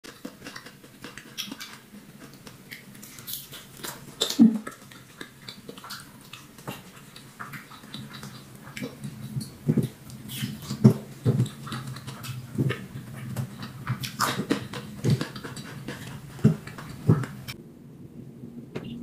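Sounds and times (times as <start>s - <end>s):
person chewing and lip-smacking: 0.0s - 17.6s
wet mouth clicks: 0.1s - 17.6s.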